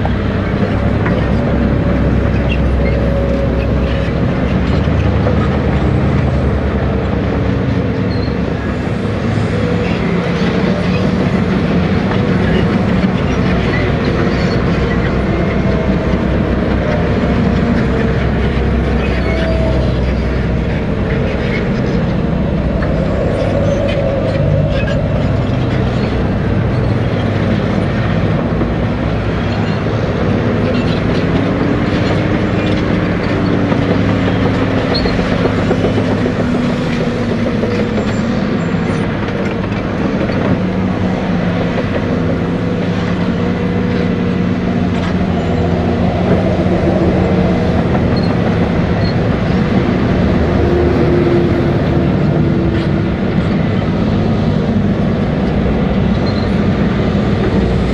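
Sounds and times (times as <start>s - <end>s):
bulldozer diesel engine: 0.0s - 57.9s
steel tracks clanking: 0.0s - 57.9s.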